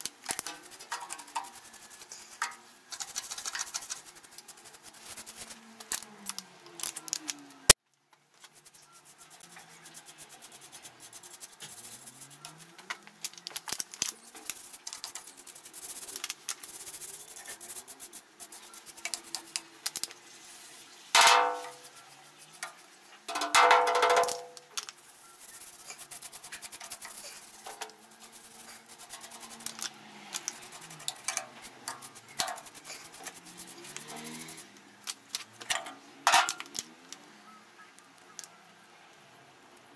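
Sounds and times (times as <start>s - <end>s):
stiff brush scrubbing metal: 0.0s - 6.1s, 8.4s - 36.9s
faint music: 0.0s - 39.9s.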